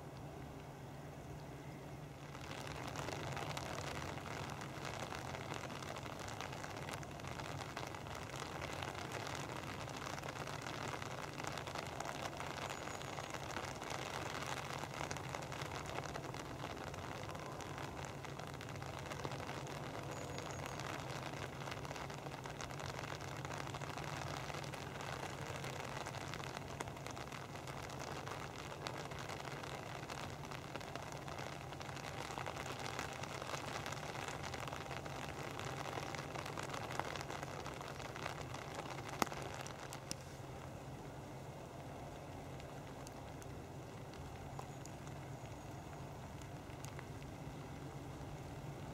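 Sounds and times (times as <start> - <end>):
rain pattering on an umbrella: 0.0 - 48.9.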